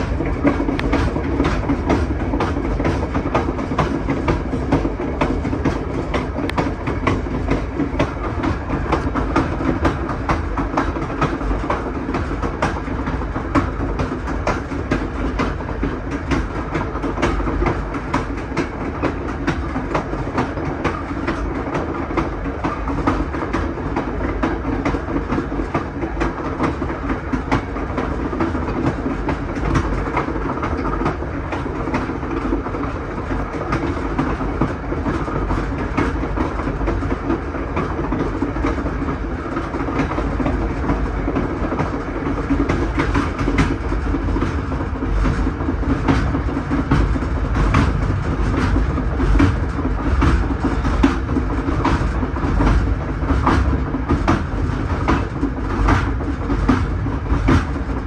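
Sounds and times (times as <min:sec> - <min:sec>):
train cars rumbling: 0:00.0 - 0:58.0
wheels clicking over rail joints: 0:00.0 - 0:58.0.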